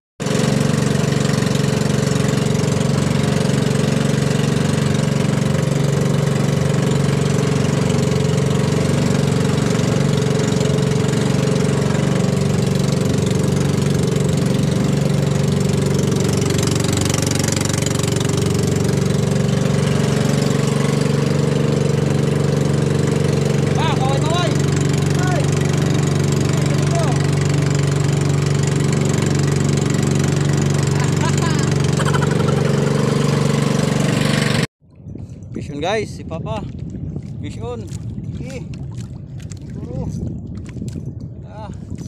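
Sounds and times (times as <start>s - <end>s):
boat engine running: 0.2s - 42.0s.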